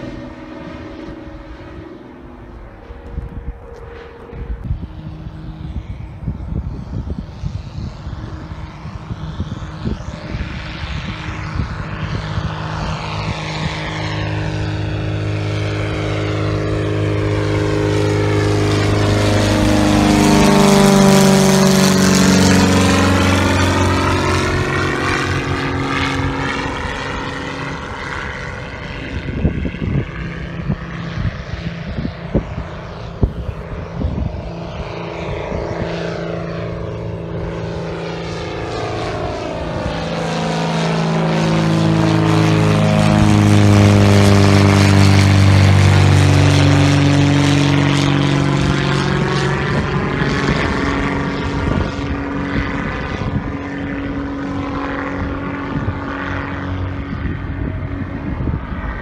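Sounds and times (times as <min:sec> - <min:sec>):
light airplane flying past: 0:00.0 - 0:59.0.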